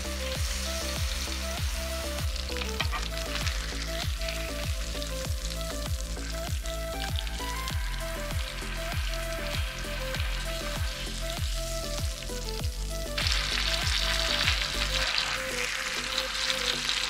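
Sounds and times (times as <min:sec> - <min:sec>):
steak sizzling in a frying pan: 0:00.0 - 0:17.0.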